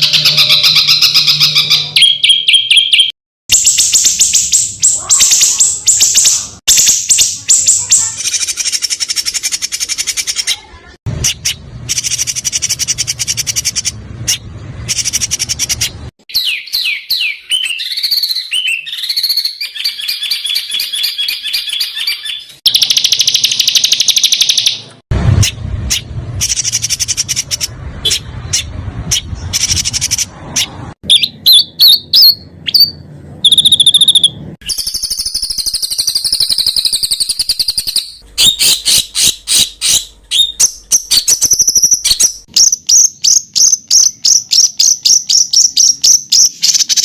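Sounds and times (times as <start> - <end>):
songbirds harsh rapid calls: 0.0 - 24.6, 33.5 - 47.0
bird fast trills: 0.0 - 47.0.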